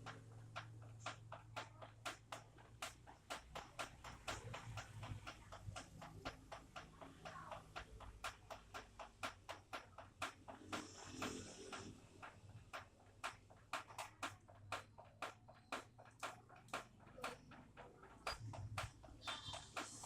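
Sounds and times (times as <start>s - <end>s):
water drops dripping: 0.0s - 20.0s.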